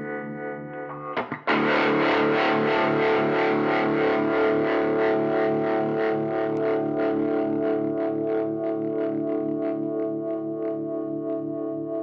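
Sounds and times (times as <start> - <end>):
electric guitar chords with tremolo: 0.0 - 12.0.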